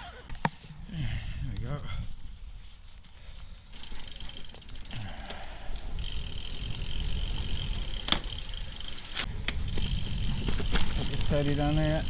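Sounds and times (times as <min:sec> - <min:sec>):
bike tyres rumbling: 0:00.0 - 0:12.0.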